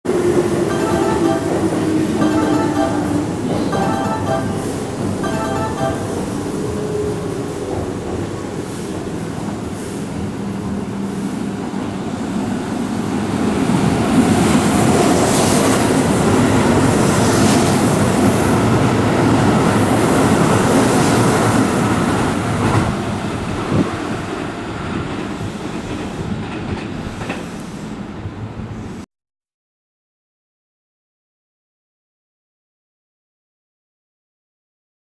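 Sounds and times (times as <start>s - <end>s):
electric train passing: 0.1s - 29.0s.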